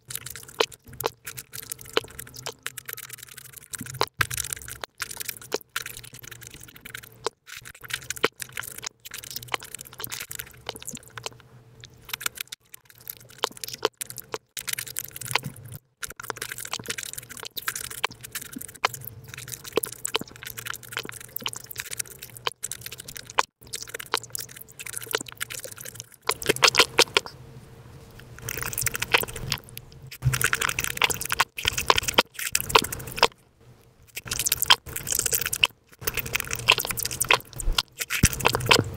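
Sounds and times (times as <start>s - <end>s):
wet chewing and crunching: 0.0s - 27.4s, 28.2s - 33.4s, 34.0s - 38.9s.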